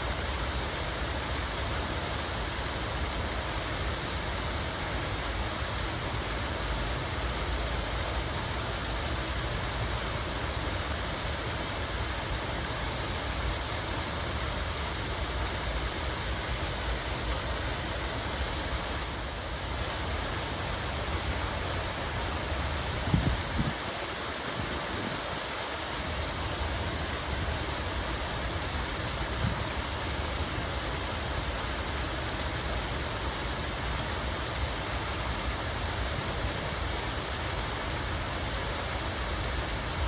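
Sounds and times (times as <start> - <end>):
flowing water rushing: 0.0 - 40.0.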